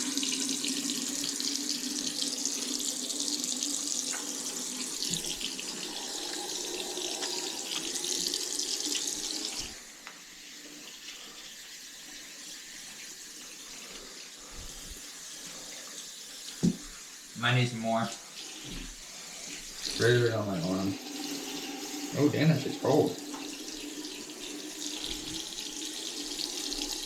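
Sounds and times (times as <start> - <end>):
sink tap running: 0.0 - 27.0.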